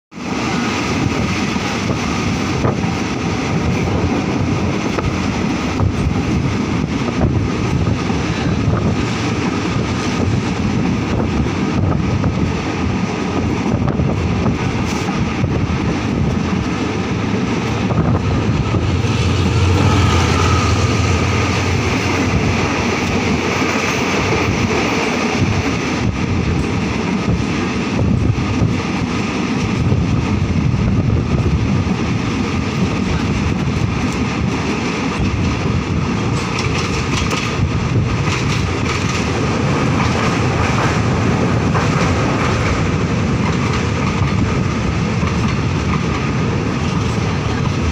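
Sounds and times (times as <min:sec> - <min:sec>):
train carriage rumbling on rails: 0:00.1 - 0:47.9
wind buffeting microphone: 0:00.2 - 0:47.9.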